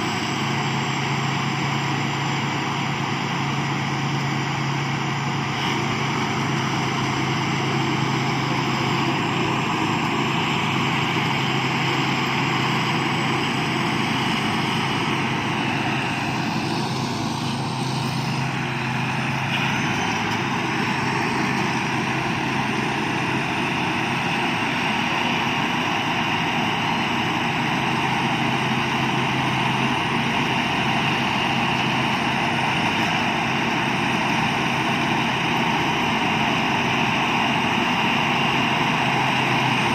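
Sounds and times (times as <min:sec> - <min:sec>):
combine harvester humming: 0:00.0 - 0:39.9.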